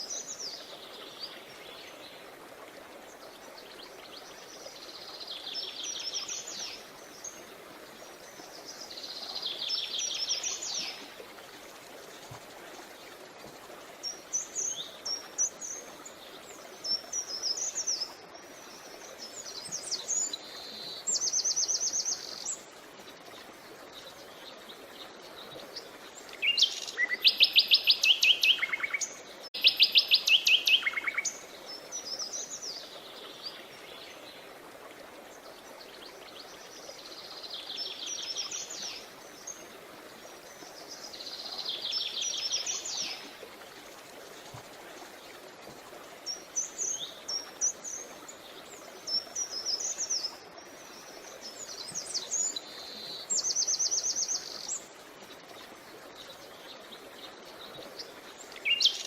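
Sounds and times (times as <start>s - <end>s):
creek rushing: 0.0s - 59.0s.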